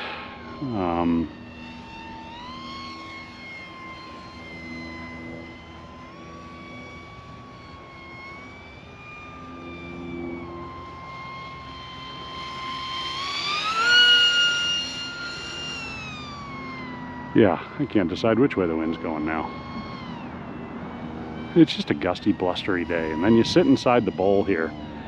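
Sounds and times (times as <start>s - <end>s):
model plane propeller whining: 0.0s - 25.0s.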